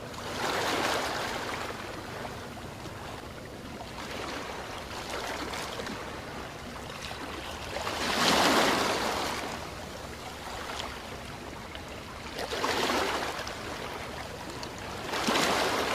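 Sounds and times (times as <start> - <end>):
waves washing in: 0.0 - 3.1, 3.8 - 15.9.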